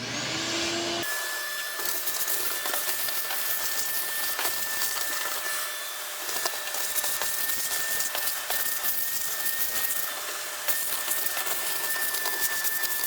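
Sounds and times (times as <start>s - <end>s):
power tool whining: 0.0s - 13.0s.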